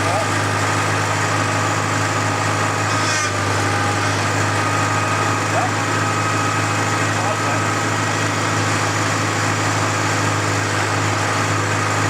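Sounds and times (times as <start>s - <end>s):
thin steady hydraulic whine: 0.0s - 12.0s
tractor engine running: 0.0s - 12.0s.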